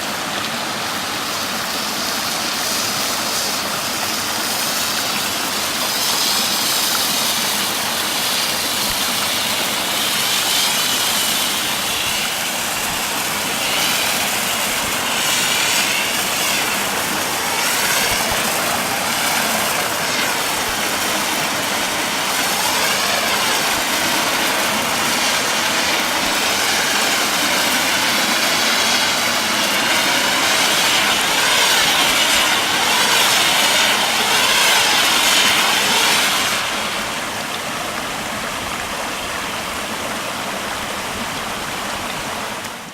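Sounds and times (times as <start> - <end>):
flares burning with rushing hiss: 0.0 - 38.3.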